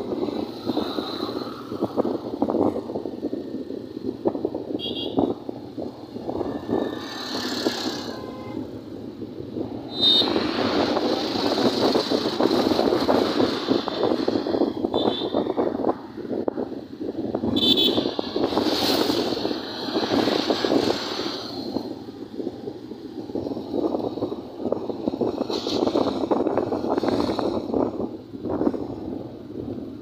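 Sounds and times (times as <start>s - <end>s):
vehicle road noise: 0.0s - 30.0s
wind buffeting microphone: 0.0s - 30.0s.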